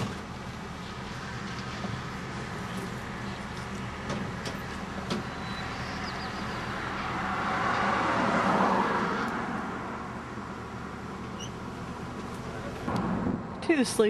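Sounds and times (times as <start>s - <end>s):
steady low engine hum: 0.0s - 7.7s, 9.2s - 14.0s
vehicle passing: 0.0s - 13.9s.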